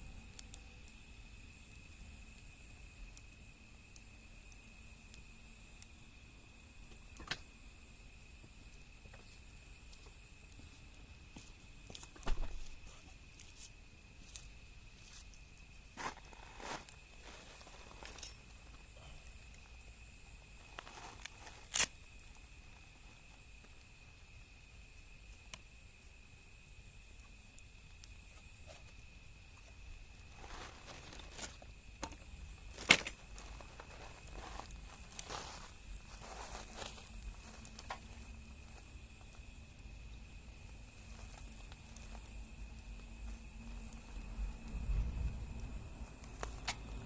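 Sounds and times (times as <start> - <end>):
campfire crackling: 0.0 - 47.0
fire hissing: 0.0 - 47.0
fire popping and snapping: 0.0 - 47.0
low steady hum: 0.0 - 47.0.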